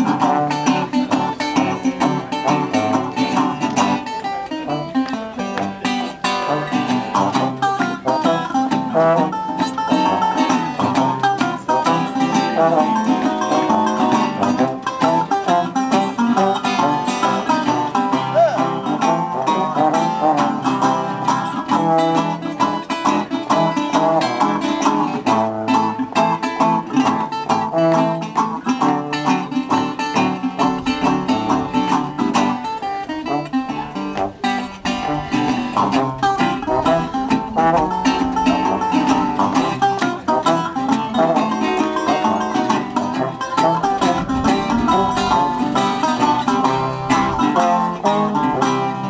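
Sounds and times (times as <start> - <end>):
guitars picked and strummed: 0.0 - 49.0
tuba bass line: 0.0 - 49.0.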